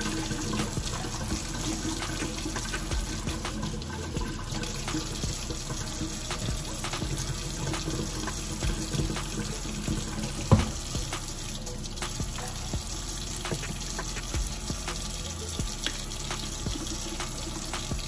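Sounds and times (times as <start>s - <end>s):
faucet running into steel sink: 0.0s - 18.0s.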